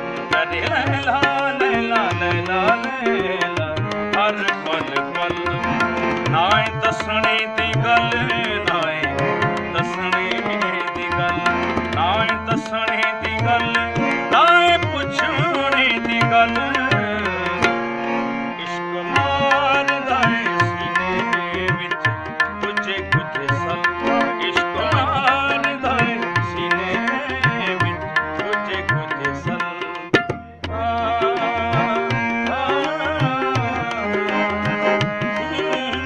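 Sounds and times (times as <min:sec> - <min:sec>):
harmonium melody: 0:00.0 - 0:36.0
tabla rhythm: 0:00.0 - 0:36.0.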